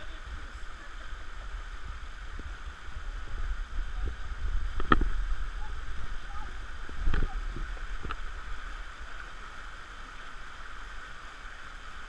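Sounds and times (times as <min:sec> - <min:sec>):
rushing water: 0:00.0 - 0:12.0
wind rumbling on microphone: 0:00.0 - 0:12.0.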